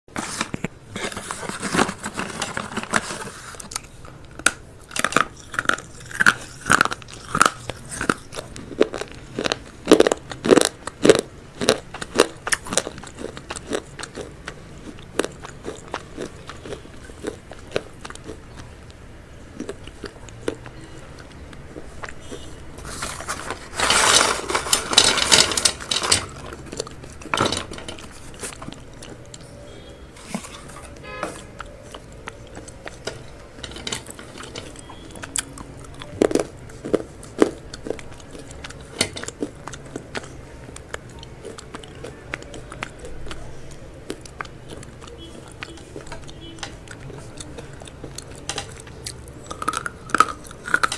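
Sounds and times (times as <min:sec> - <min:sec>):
close-miked crunching and chewing: 0:00.1 - 0:50.9.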